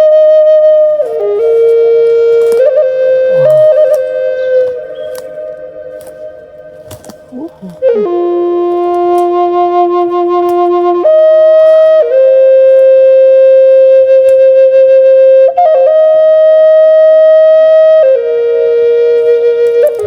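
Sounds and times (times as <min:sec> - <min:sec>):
slow flute melody: 0:00.0 - 0:20.0.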